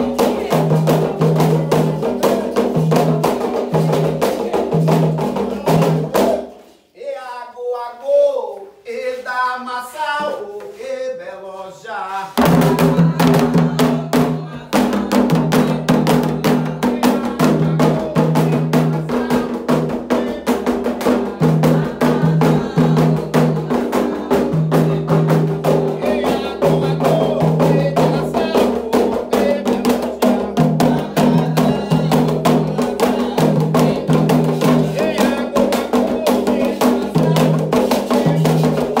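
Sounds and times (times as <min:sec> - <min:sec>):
hand drums fast rhythm: 0:00.0 - 0:06.5, 0:12.4 - 0:39.0
voices singing held notes: 0:00.0 - 0:39.0.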